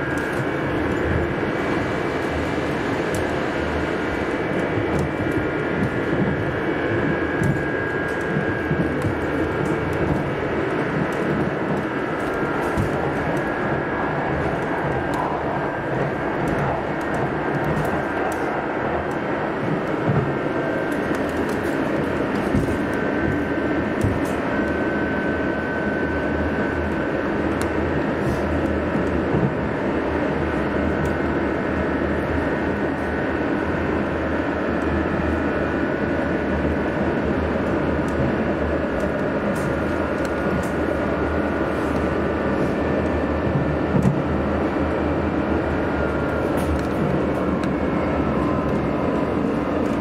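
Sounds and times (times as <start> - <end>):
vehicle running hum and rumble: 0.0 - 50.0.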